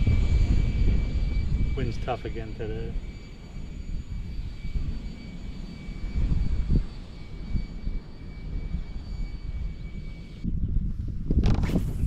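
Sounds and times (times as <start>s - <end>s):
faint high whine: 0.0s - 12.0s
wind buffeting microphone: 0.0s - 12.0s.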